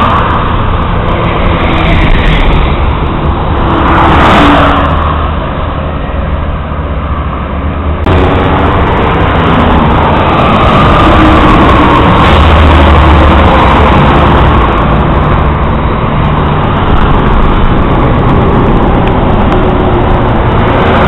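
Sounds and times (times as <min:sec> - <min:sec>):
highway traffic noise: 0:00.0 - 0:21.0
vehicle passing: 0:00.0 - 0:21.0.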